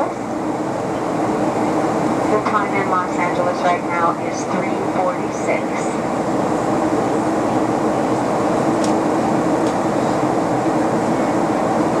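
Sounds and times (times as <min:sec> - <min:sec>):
jet engine and airflow rush: 0:00.0 - 0:12.0.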